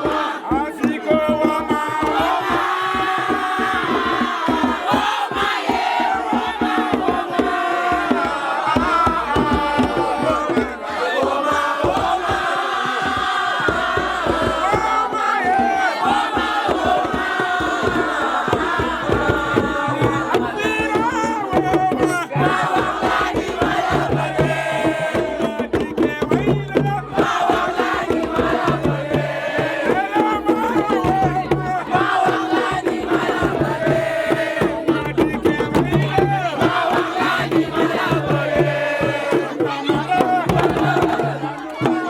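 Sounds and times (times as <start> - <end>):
crowd singing and chanting: 0.0 - 42.0
hand drumming: 0.0 - 42.0.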